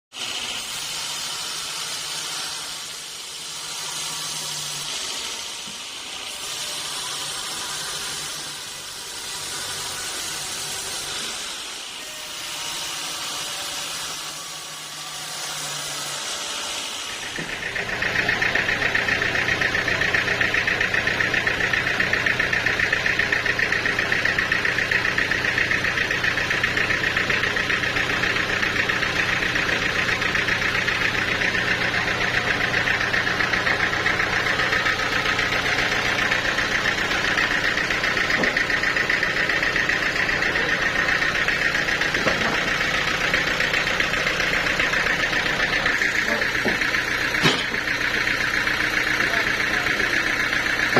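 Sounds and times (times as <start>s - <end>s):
sawmill machinery hissing: 0.1s - 50.9s
high machine whine: 0.2s - 50.9s.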